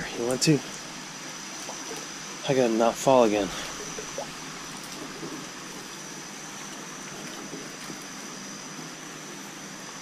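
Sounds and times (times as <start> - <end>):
creek water running over rocks: 0.0 - 10.0.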